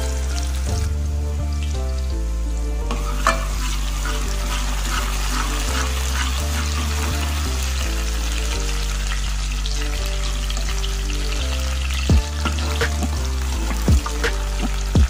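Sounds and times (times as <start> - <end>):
background music low notes: 0.0 - 15.0
onion sizzling in hot oil: 0.0 - 15.0.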